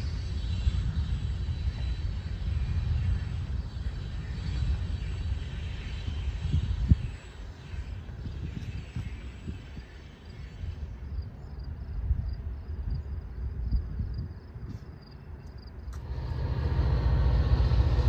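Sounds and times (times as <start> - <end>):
distant freight train rumble: 0.0 - 12.5, 15.8 - 18.0
wind buffeting microphone: 0.0 - 15.4.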